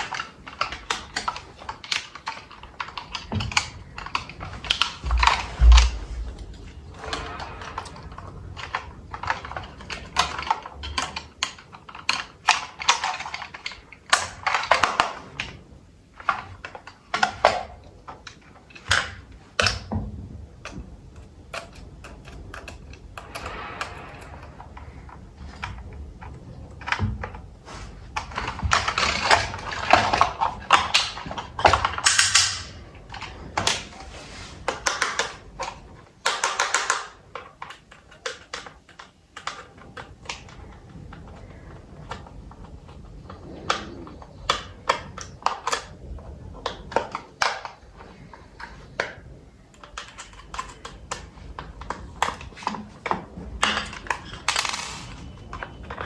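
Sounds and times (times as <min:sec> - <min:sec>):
clicks and knocks of handling: 0:00.0 - 0:56.0.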